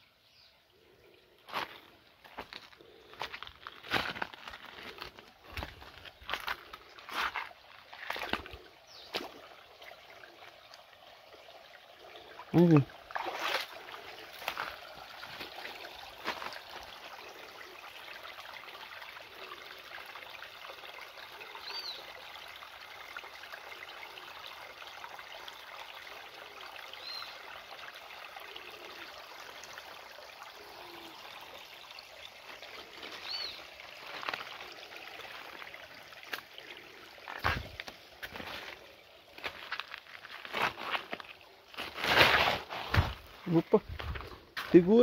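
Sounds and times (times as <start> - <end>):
creek trickling over stones: 0.0 - 45.0.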